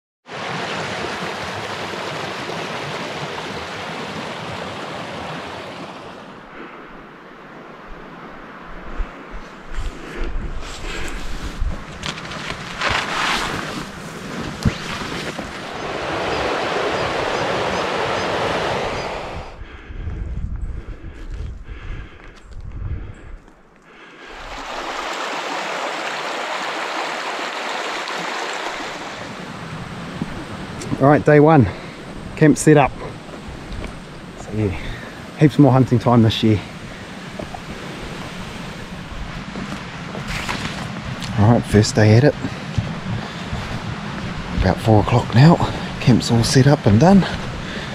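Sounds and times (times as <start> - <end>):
creek rushing over rocks: 0.3 - 6.5, 9.7 - 19.5, 24.2 - 47.9.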